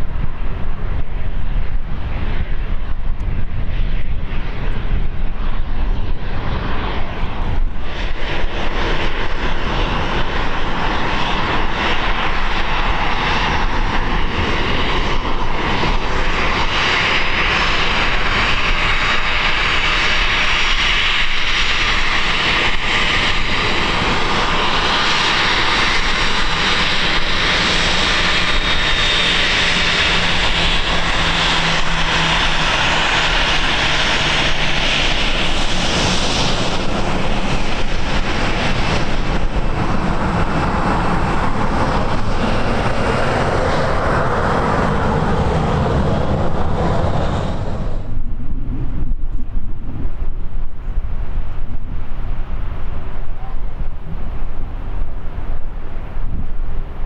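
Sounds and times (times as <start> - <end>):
jet engines whining: 0.0 - 57.0
wind buffeting microphone: 0.0 - 57.0.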